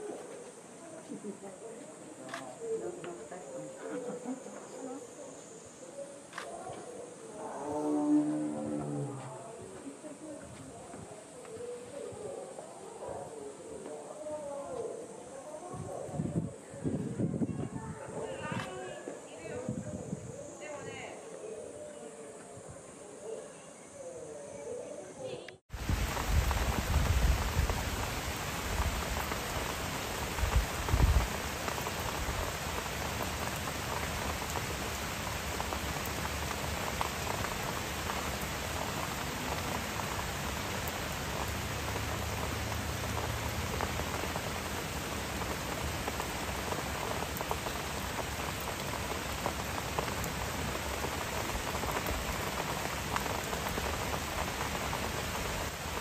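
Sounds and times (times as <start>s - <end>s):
rain falling on foliage: 0.0s - 17.2s, 25.6s - 56.0s.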